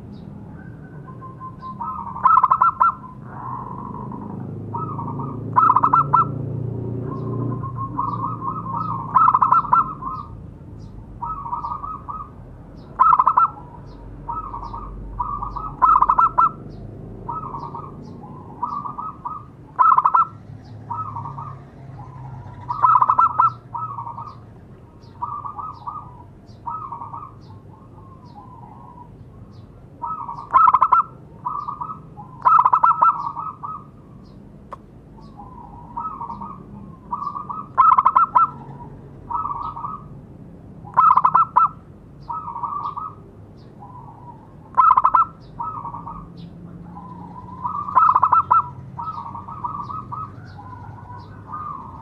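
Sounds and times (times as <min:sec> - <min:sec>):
dove cooing: 0:00.0 - 0:34.4, 0:35.1 - 0:40.2, 0:40.8 - 0:52.0.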